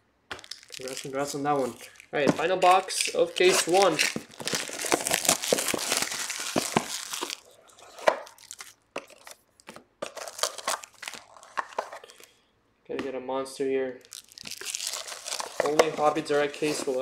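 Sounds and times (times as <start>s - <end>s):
plastic wrap crinkling and tearing: 0.4s - 9.4s, 10.0s - 12.3s, 14.0s - 17.0s.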